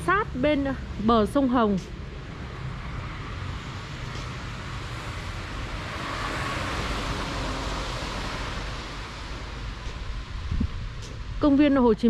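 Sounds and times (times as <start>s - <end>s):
road traffic hiss and rumble: 0.0s - 12.0s.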